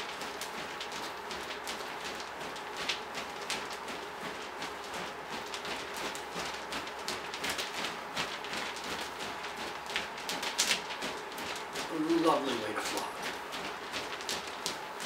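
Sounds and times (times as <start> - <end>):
light slaps of tails: 0.0 - 15.0.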